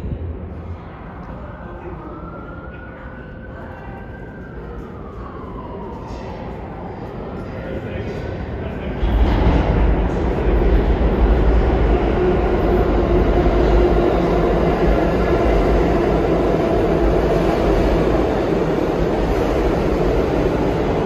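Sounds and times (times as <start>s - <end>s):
subway train rumbling on rails: 0.0s - 21.0s.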